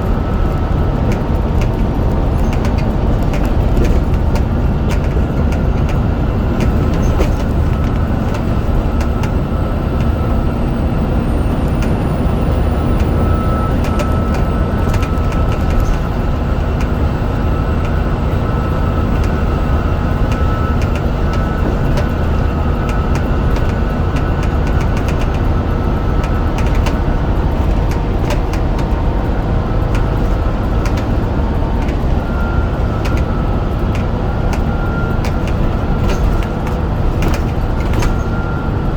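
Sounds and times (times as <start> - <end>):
bus diesel engine running: 0.0 - 38.9
thin wavering whine: 0.0 - 38.9
clicks and rattles: 0.3 - 10.2, 12.9 - 18.1, 18.9 - 38.6.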